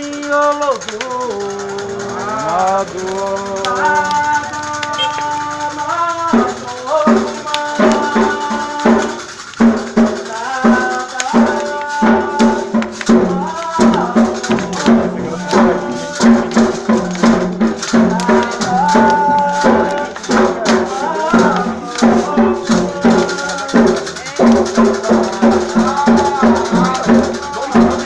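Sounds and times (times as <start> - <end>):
drums beating: 0.0 - 28.0
shaken rattle: 0.0 - 28.0
voices chanting: 0.0 - 28.0.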